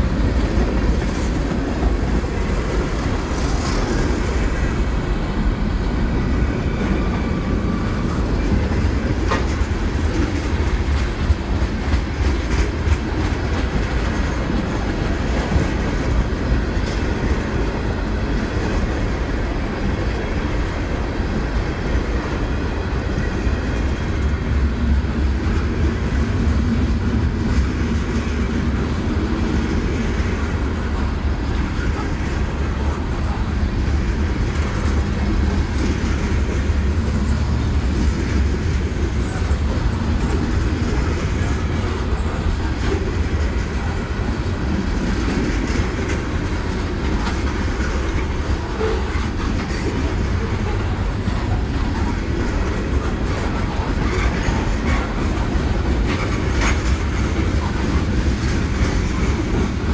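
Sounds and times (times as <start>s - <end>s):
freight train wheels rumbling on rail: 0.0s - 59.9s
train wheels clicking: 0.0s - 59.9s.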